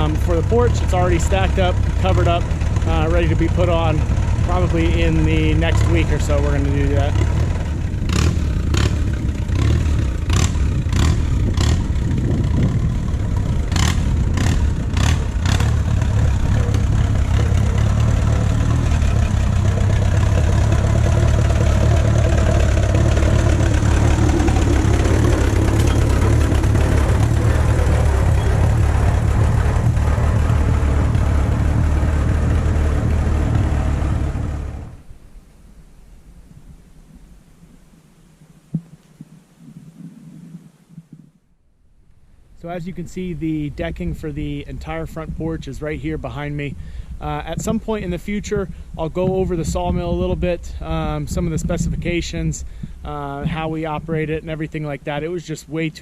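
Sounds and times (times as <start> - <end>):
tractor engine running: 0.0 - 41.6, 42.4 - 56.0.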